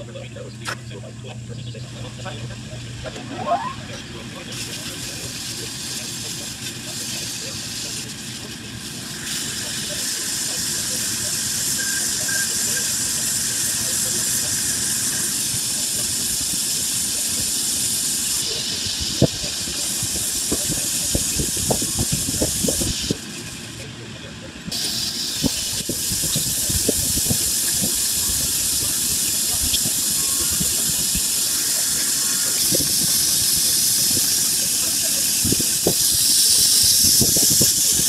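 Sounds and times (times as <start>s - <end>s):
grinding wheel hissing: 0.0s - 38.0s.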